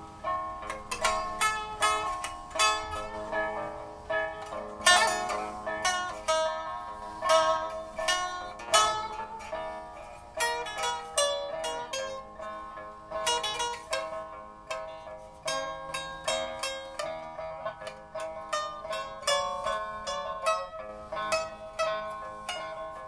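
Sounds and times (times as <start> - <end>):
plucked zither music: 0.0 - 23.0.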